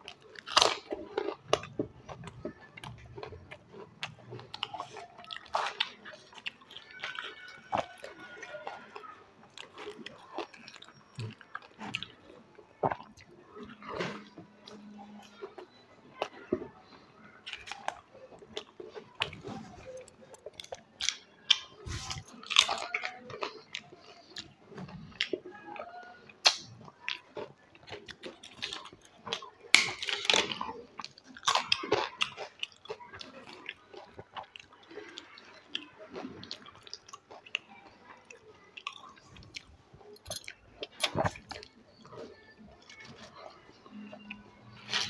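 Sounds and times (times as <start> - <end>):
crunchy chewing: 0.0 - 45.0.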